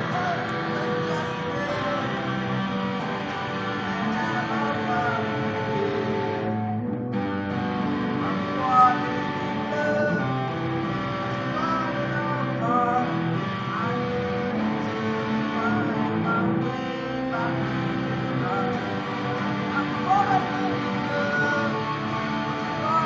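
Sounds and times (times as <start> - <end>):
electric guitar melody with bends: 0.0 - 23.0.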